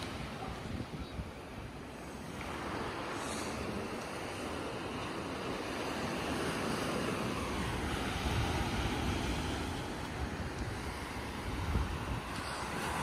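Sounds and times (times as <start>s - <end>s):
ocean surf on sandy beach: 0.0s - 13.0s
wind rumbling on microphone: 0.0s - 13.0s.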